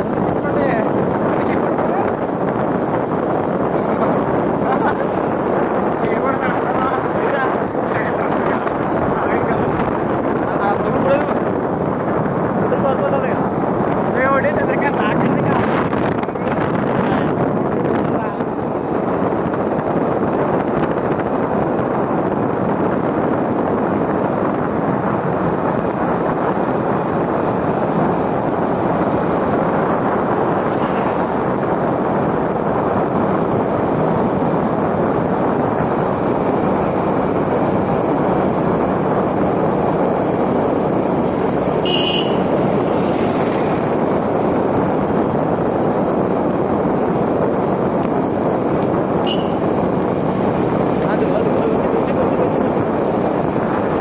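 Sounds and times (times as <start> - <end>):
vehicle road noise: 0.0 - 54.0
wind on microphone: 0.0 - 54.0.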